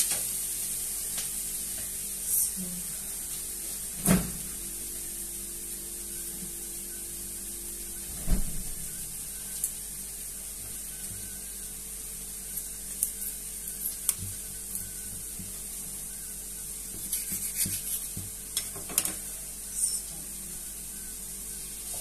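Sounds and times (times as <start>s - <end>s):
food sizzling in frying pan: 0.0s - 8.0s, 8.6s - 20.1s, 20.7s - 22.0s.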